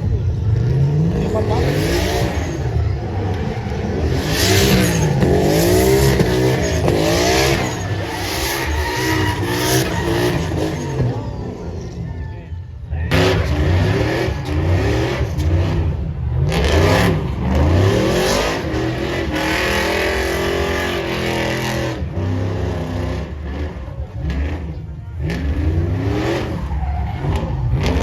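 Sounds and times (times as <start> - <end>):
truck engine revving: 0.0 - 28.0.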